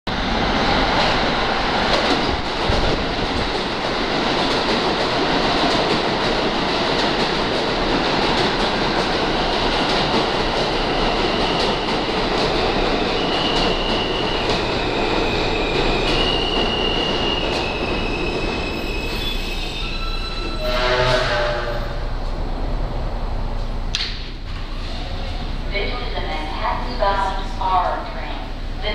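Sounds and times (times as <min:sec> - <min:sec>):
subway train wheels rumbling on rail: 0:00.1 - 0:28.9.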